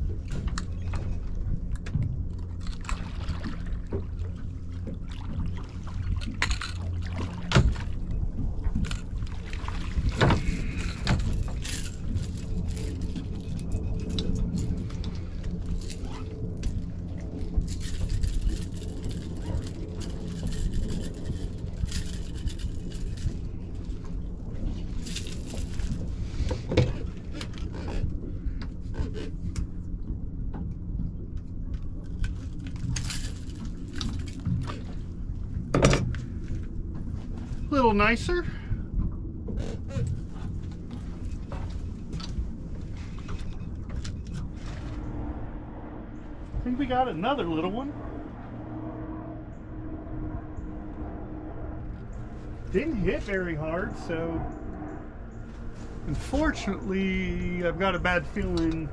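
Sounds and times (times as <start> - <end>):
boat motor droning: 0.0 - 58.9.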